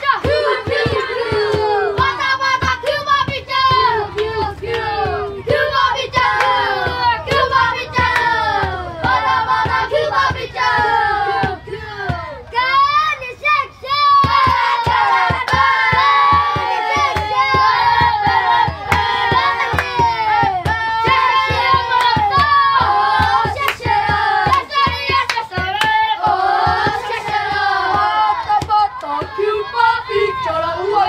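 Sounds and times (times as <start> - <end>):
children singing together: 0.0 - 12.8, 13.4 - 31.0
rhythmic clapping: 0.0 - 31.0.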